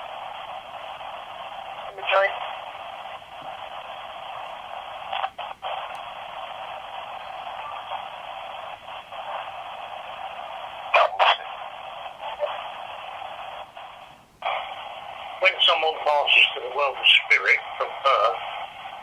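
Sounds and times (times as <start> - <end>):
loud static bursts: 0.0 - 19.0
radio static hiss: 0.0 - 19.0.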